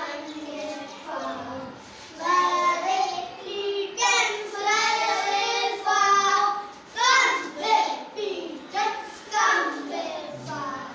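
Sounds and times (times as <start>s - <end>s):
children chanting a rhyme: 0.0s - 10.9s.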